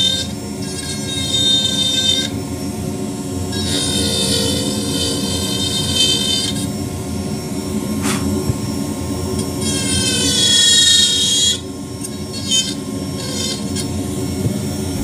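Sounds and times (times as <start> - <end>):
burr grinding wood whine: 0.0 - 15.0
rotary carver motor hum: 0.0 - 15.0.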